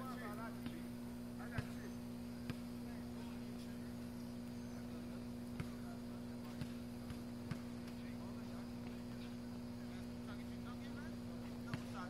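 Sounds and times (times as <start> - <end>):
faint distant voices: 0.0 - 12.0
steady low hum: 0.0 - 12.0
basketball bouncing on pavement: 0.4 - 12.0.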